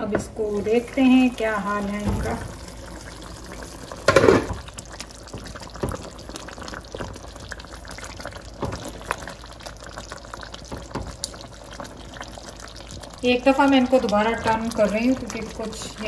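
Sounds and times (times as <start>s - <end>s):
curry simmering and bubbling: 0.0s - 16.0s.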